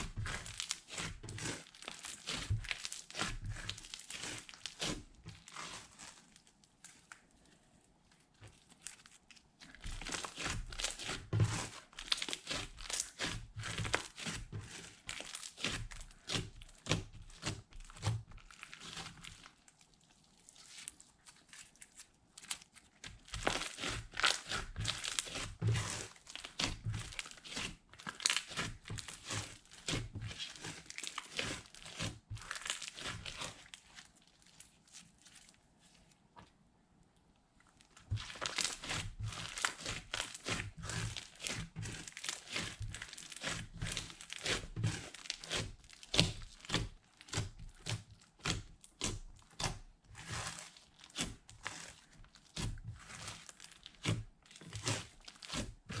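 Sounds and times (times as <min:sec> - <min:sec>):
hands squishing slime: 0:00.0 - 0:36.4, 0:37.6 - 0:56.0.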